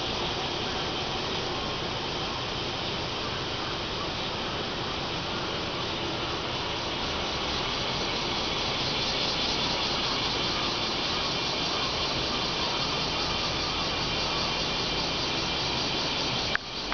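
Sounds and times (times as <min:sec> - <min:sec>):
cicadas buzzing: 0:00.0 - 0:16.9.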